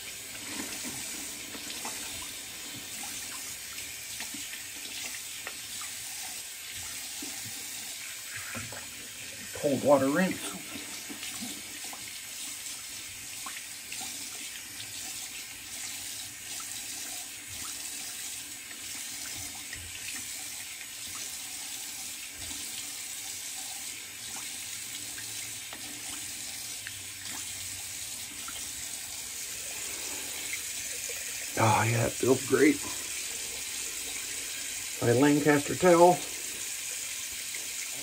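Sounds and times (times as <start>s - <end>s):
tap water running: 0.0s - 38.0s.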